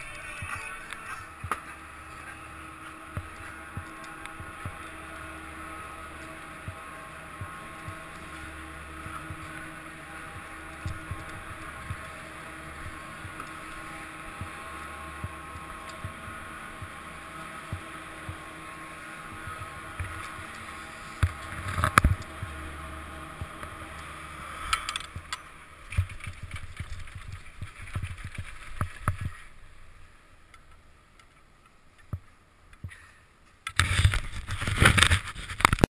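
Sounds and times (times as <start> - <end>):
chairlift machinery humming: 0.0 - 35.9
creaks: 0.0 - 35.9.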